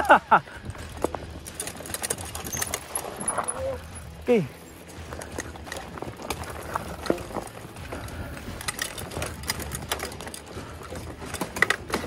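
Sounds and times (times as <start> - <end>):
bike clattering over rocks: 0.0 - 12.0
bike tyres rumbling on dirt: 0.0 - 12.0.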